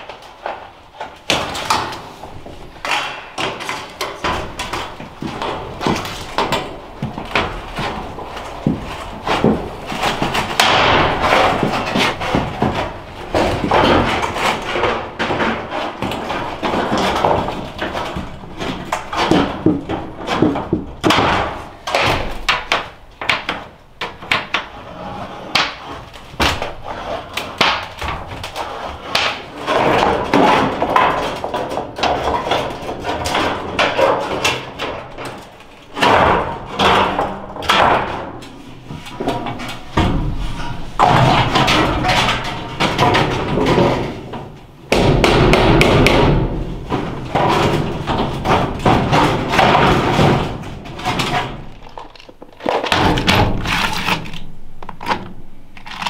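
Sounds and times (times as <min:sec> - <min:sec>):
sheet metal rattling and clattering: 0:00.0 - 0:56.0.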